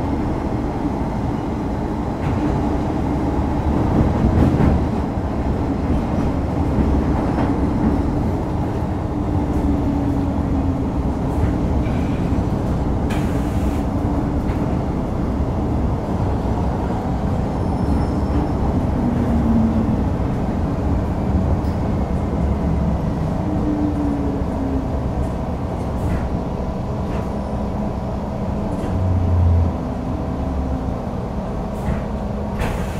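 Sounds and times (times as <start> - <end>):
train rumble: 0.0 - 32.9.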